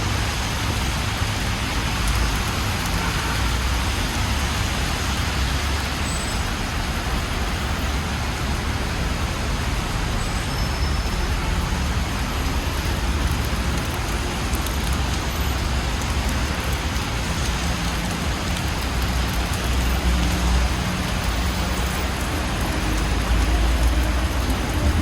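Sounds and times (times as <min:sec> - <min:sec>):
low rumble of city traffic: 0:00.0 - 0:25.0
rain falling on street: 0:00.0 - 0:25.0.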